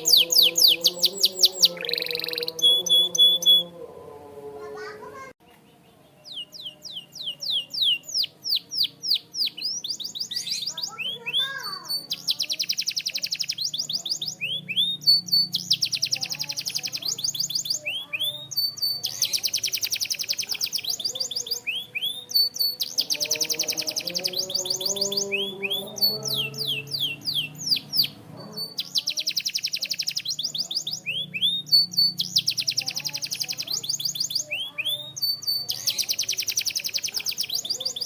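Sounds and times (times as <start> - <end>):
canary singing: 0.0 - 38.0.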